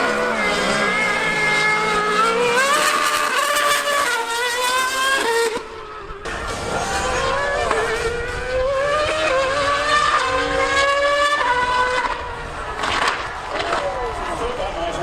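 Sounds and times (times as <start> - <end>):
racing car engine accelerating: 0.0 - 15.0
superbike engine accelerating: 0.0 - 15.0.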